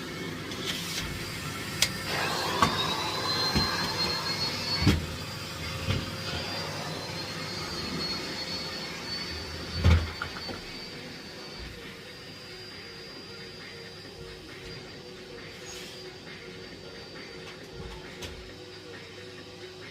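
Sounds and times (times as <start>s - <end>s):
vacuum cleaner motor whining: 0.0s - 19.9s.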